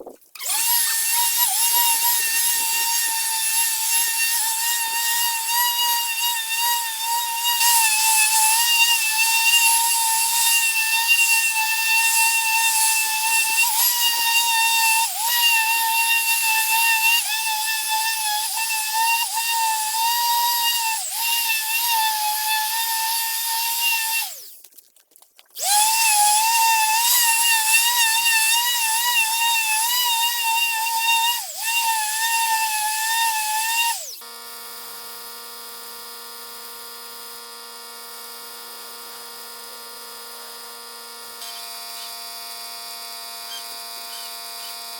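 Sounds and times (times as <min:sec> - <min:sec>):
power tool motor whining: 0:00.3 - 0:24.6, 0:25.6 - 0:44.9.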